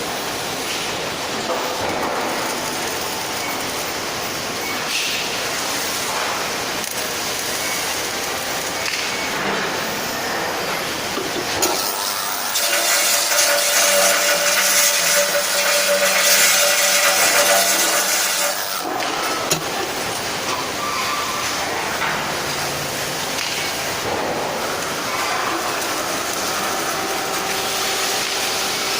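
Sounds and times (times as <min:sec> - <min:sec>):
metalworking shop noise: 0:00.0 - 0:28.9.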